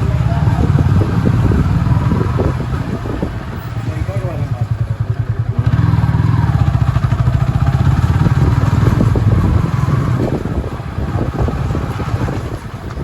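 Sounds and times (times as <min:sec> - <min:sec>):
motorcycle engine running: 0:00.0 - 0:13.0
road traffic: 0:00.0 - 0:13.0.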